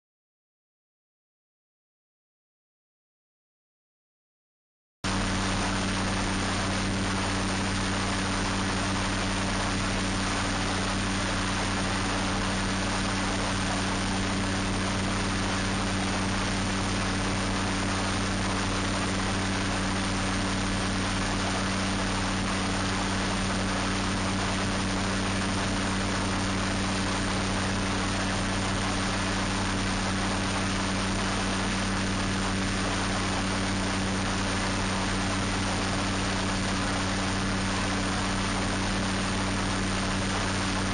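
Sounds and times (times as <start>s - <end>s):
aircraft engine and propeller drone: 5.1s - 40.9s.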